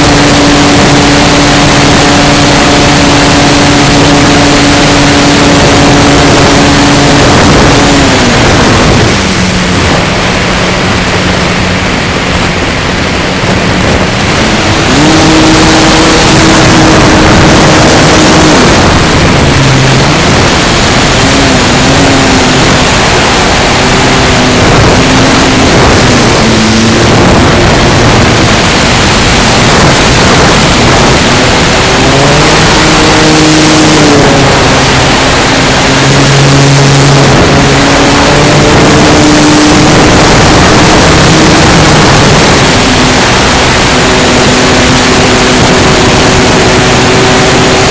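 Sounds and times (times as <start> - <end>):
electric motor and propeller: 0.0 - 47.9
wind rush: 0.0 - 47.9.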